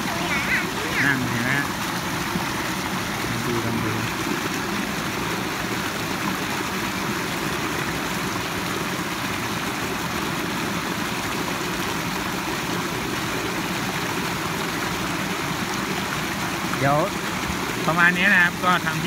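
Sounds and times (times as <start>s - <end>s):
water rushing over weir: 0.0s - 19.0s.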